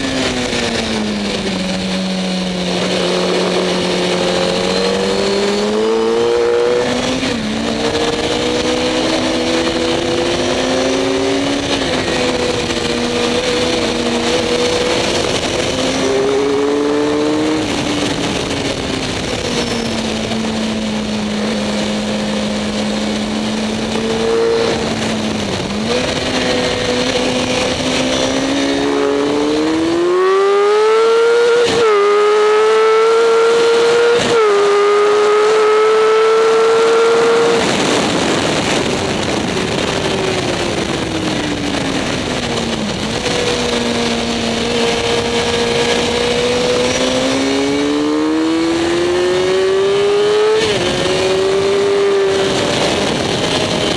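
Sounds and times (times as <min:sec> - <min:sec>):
motorcycle engine accelerating: 0:00.0 - 0:53.9
wind rush: 0:00.0 - 0:53.9.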